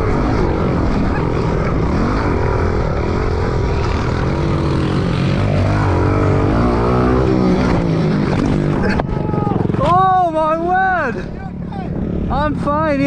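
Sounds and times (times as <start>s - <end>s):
pit bike engines revving: 0.0s - 13.0s.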